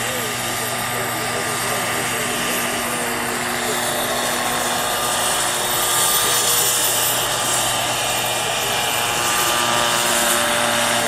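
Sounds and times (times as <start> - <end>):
helicopter rotor noise: 0.0 - 11.0
model turbine engine whining: 0.0 - 11.0.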